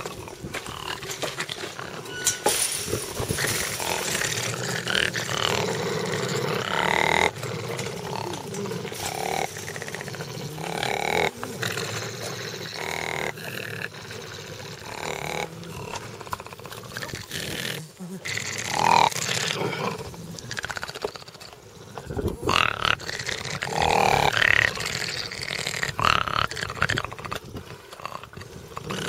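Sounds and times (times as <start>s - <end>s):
foxes growling: 0.0s - 29.0s.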